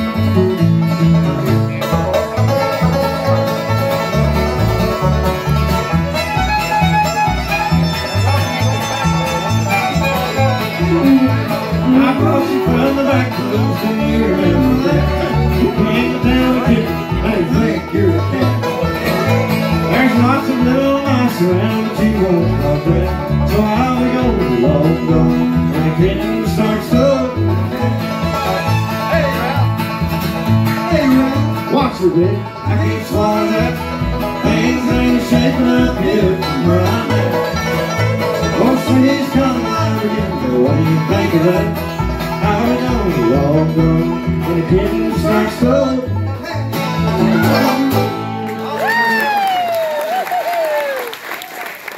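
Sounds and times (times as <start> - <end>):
bowed fiddle melody: 0.0 - 49.0
bass notes: 0.0 - 49.6
picked banjo: 0.0 - 49.7
acoustic guitar: 0.0 - 49.9.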